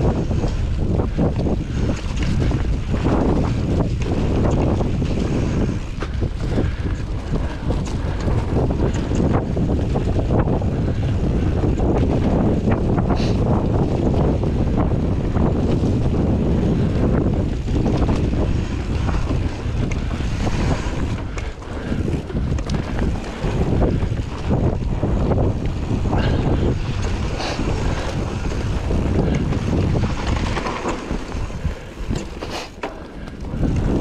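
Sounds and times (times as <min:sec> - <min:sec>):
bike clicks and rattles: 0:00.0 - 0:34.0
bike tyre rumble: 0:00.0 - 0:34.0
wind buffeting microphone: 0:00.0 - 0:34.0.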